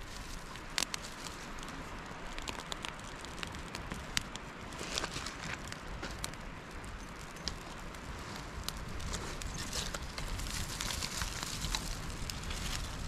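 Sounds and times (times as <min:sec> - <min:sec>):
campfire crackling and popping: 0:00.0 - 0:13.0
low rumble of wind: 0:00.0 - 0:13.0.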